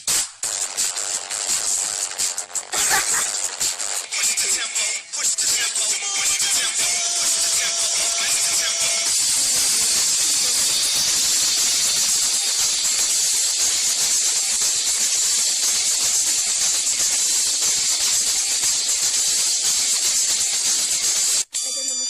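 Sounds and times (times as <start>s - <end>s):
loud high-pitched hiss: 0.0s - 21.5s.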